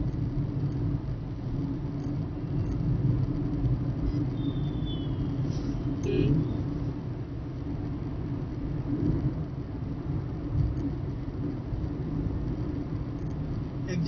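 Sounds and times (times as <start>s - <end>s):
car driving at highway speed: 0.0s - 14.0s.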